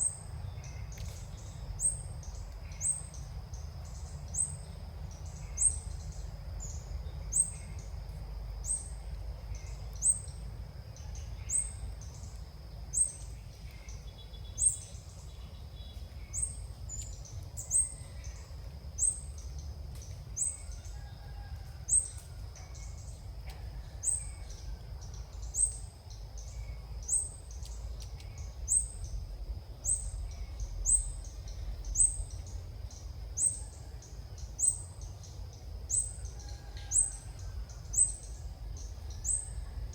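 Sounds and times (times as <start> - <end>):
steady high hum: 0.0 - 21.0, 21.8 - 39.9.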